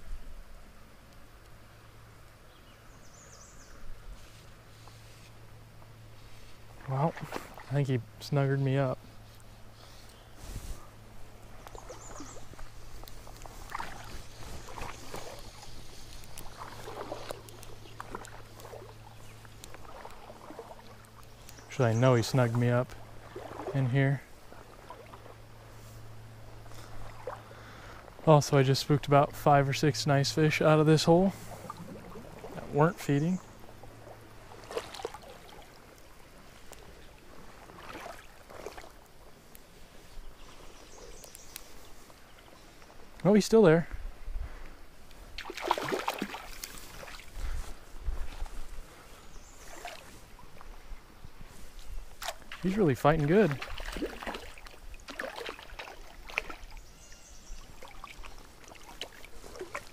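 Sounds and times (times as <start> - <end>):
low steady hum: 0.0 - 59.9
water splashing and sloshing: 4.0 - 59.9.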